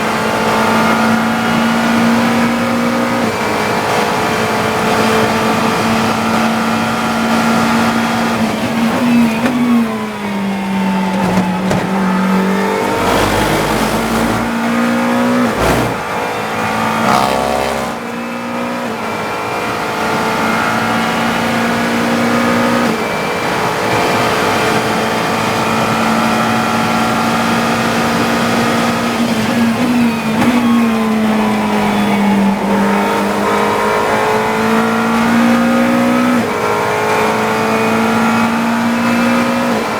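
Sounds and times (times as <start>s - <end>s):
race car engine revving and downshifting: 0.0s - 39.9s.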